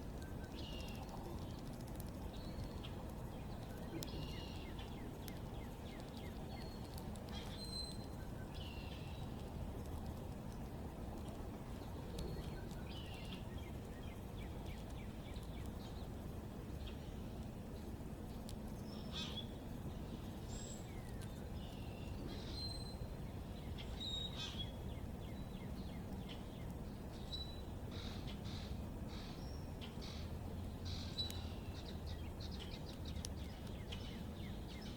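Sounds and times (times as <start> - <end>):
low outdoor rumble: 0.0 - 34.9
songbirds chirping: 0.0 - 34.9.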